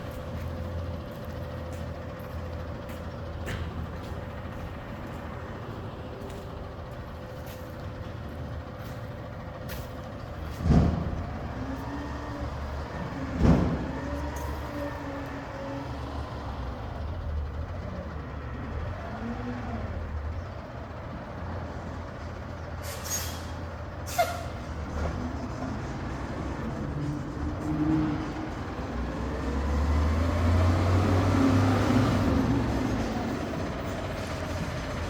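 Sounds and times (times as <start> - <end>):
garbage truck engine running: 0.0 - 35.0.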